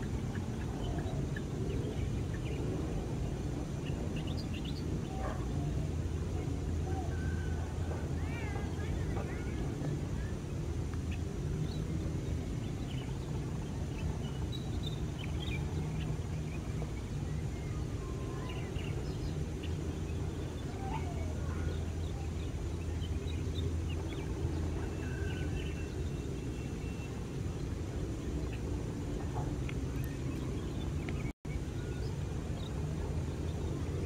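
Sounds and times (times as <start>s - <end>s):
distant jet airliner rumble: 0.0s - 34.0s.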